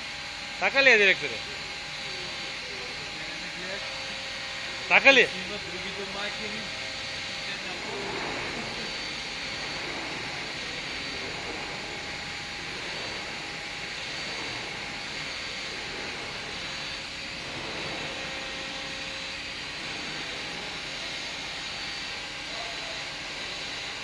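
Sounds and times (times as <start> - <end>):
faint machinery hum: 0.0 - 24.0
machinery hiss: 0.8 - 24.0.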